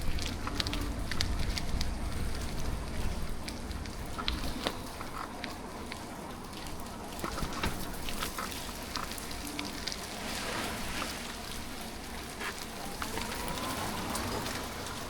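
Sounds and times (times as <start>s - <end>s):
rain drops ticking on camera: 0.0s - 15.0s
steady hiss of riding: 0.0s - 15.0s.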